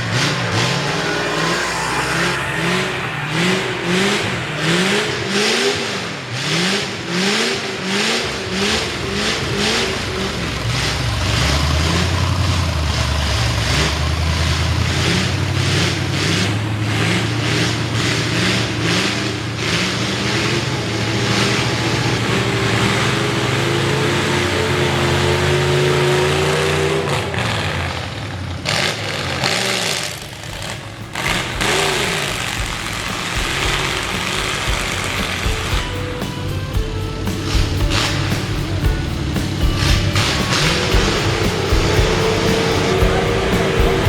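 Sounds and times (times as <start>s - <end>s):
low engine drone: 0.0s - 28.6s, 29.8s - 44.0s
engine throttle blips: 0.0s - 44.0s.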